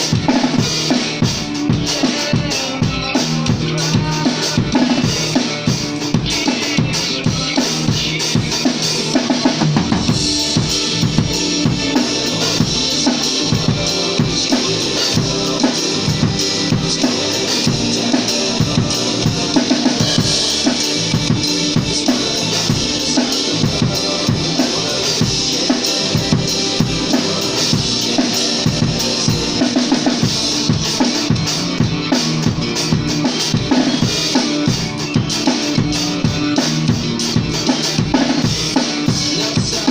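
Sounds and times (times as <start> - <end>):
drum kit beat with cymbals: 0.0 - 39.9
rock music: 0.0 - 39.9.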